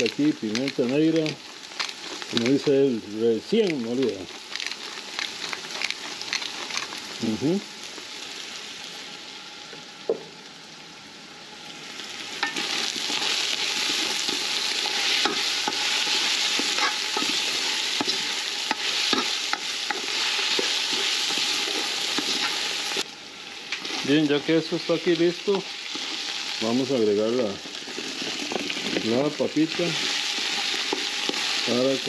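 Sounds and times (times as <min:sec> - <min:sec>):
vegetables sizzling in a pot: 0:00.0 - 0:32.0.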